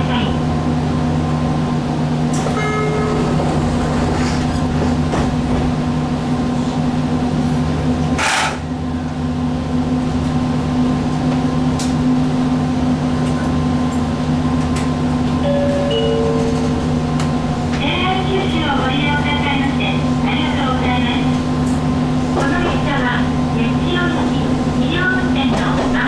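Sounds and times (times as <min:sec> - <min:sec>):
electric train equipment hum: 0:00.0 - 0:26.0.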